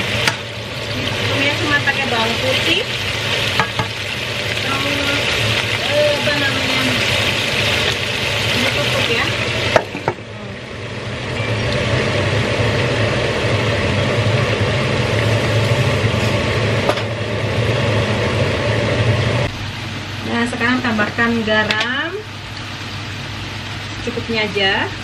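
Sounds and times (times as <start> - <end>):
broccoli sizzling in a wok: 0.0 - 25.0.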